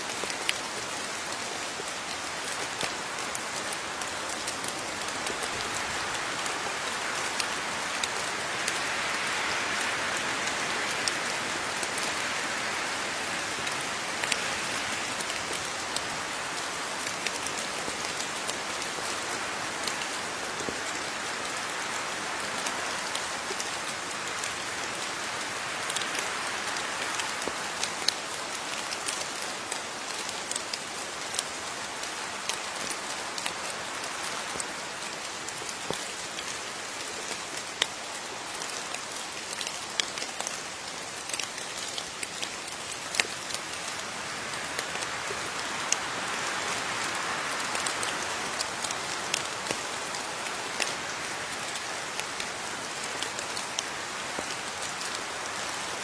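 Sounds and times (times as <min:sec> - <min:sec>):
raindrops ticking on a surface: 0:00.0 - 0:56.0
steady rain falling: 0:00.0 - 0:56.0.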